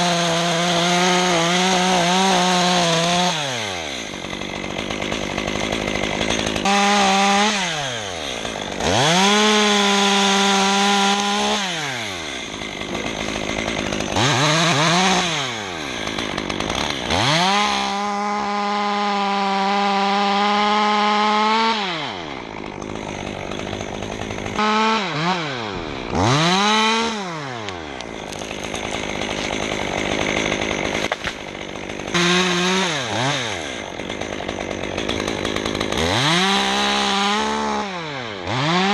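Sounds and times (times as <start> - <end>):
chainsaw idling: 0.0 - 38.9
chainsaw revving and cutting wood: 0.0 - 38.9.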